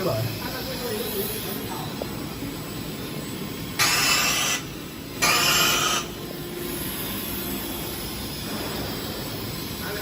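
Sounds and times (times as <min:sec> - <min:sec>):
laser welder hissing bursts: 0:00.0 - 0:10.0
machinery hum: 0:00.0 - 0:10.0.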